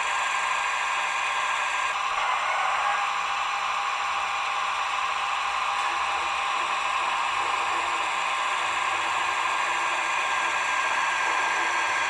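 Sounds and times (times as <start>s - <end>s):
steady hissing whir: 0.0s - 12.0s.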